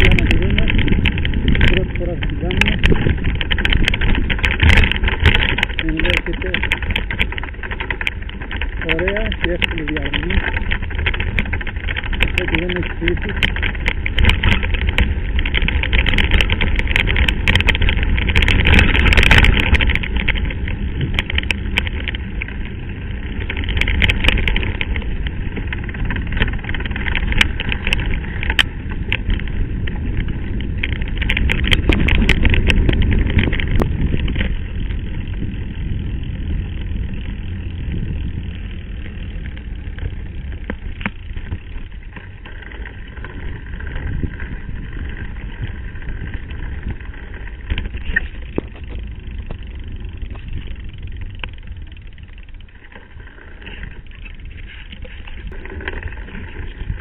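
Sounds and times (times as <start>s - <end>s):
bike tyres rumbling on gravel: 0.0s - 57.0s
stones and bike rattling: 0.0s - 57.0s
wind on microphone: 0.0s - 57.0s.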